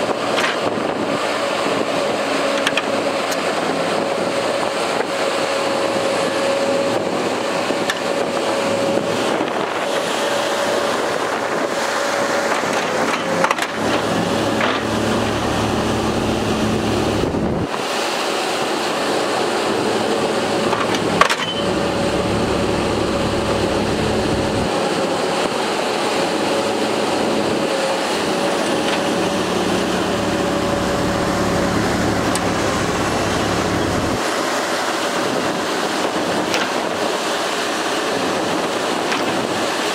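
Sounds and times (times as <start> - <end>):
harvester engine and hydraulics: 0.0 - 39.9.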